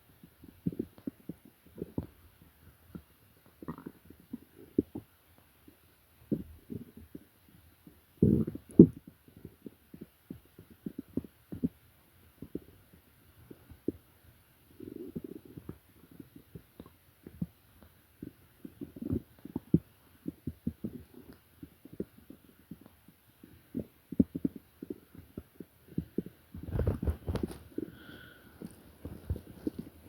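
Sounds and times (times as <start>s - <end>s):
stomach growling: 0.1s - 30.0s.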